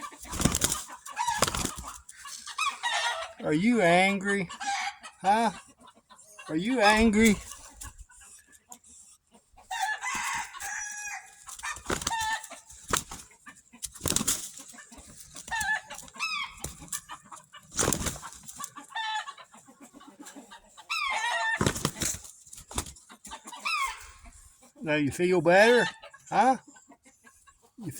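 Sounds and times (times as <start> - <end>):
rooster clucking and calling: 0.0 - 24.7, 25.7 - 27.4.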